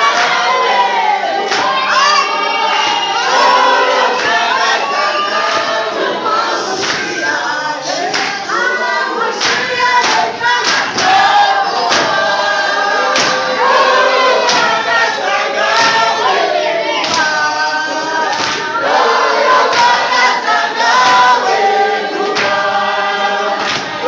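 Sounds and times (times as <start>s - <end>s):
group singing in chorus: 0.0s - 24.0s.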